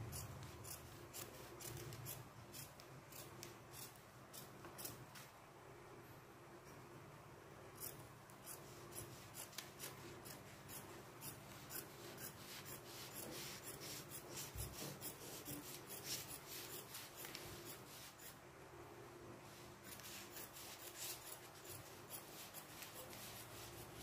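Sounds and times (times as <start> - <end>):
shears snipping fabric: 0.2 - 5.3, 7.8 - 18.4, 19.8 - 24.0.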